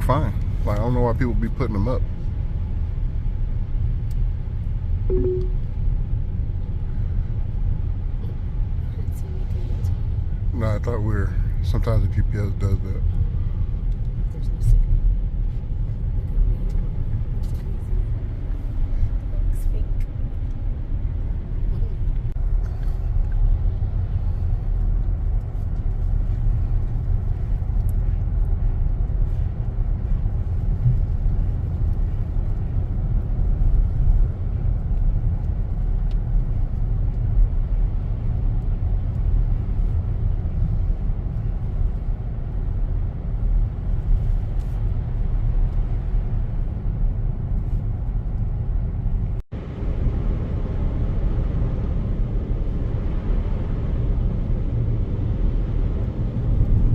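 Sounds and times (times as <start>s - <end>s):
road and engine rumble in car: 0.0s - 56.9s.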